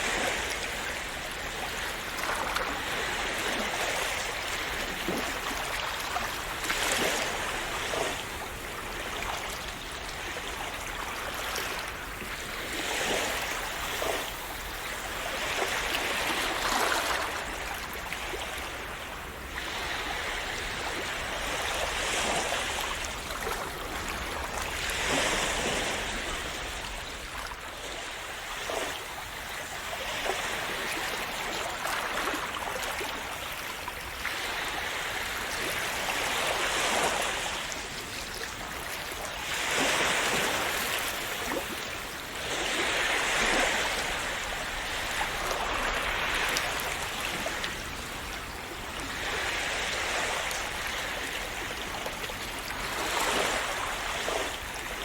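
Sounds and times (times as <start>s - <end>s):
sea waves washing in: 0.0s - 55.0s.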